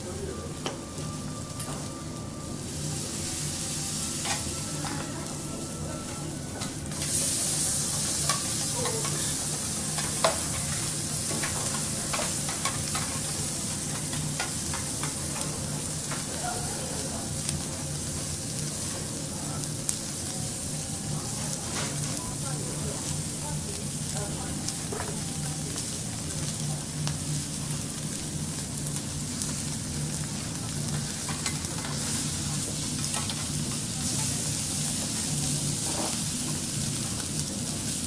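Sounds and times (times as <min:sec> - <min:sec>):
food sizzling on a griddle: 0:00.0 - 0:38.0.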